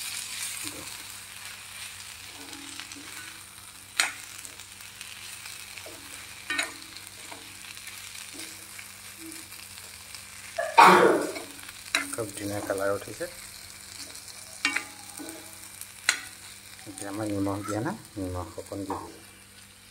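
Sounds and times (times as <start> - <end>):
food sizzling in oil: 0.0 - 19.9.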